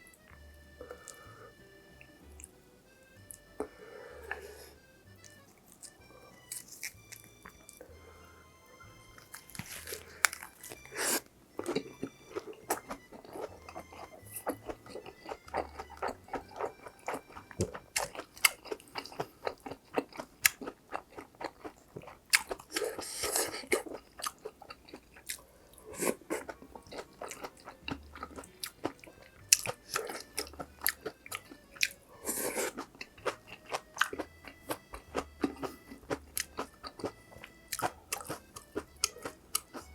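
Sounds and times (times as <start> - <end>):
chewing and crunching: 0.0 - 2.6, 3.2 - 8.1, 8.7 - 39.9
soft background music: 0.0 - 39.9.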